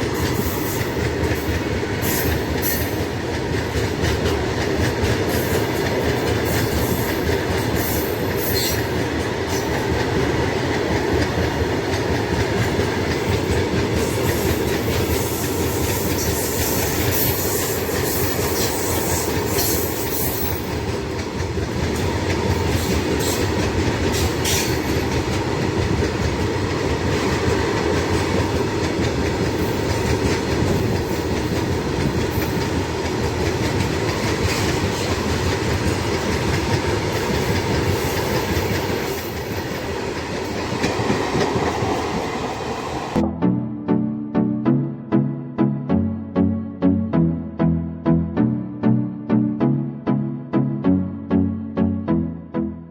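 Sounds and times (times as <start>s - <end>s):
freight train rolling past: 0.0s - 43.3s.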